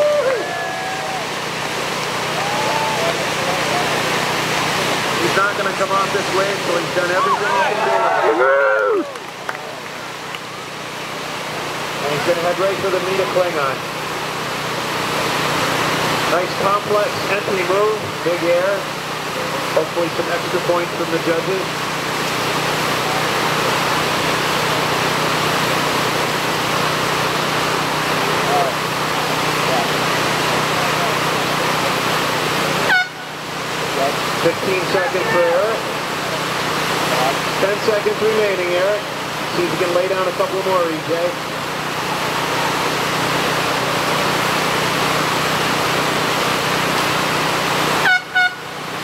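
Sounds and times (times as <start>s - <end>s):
river rapid rushing: 0.0s - 49.0s.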